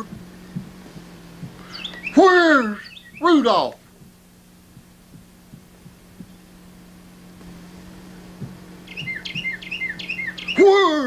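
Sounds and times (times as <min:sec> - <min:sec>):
faint dull thuds: 0:00.0 - 0:10.7
low steady hum: 0:00.0 - 0:11.0.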